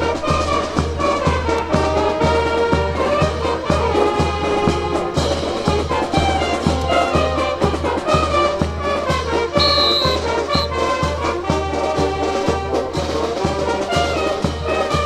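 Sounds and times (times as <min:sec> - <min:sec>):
brass band playing a march: 0:00.0 - 0:15.0.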